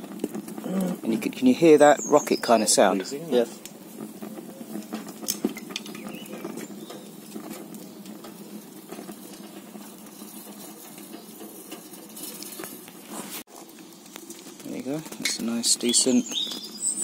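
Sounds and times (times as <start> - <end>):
fire crackling: 0.0 - 17.0
stove draught rushing: 0.0 - 17.0.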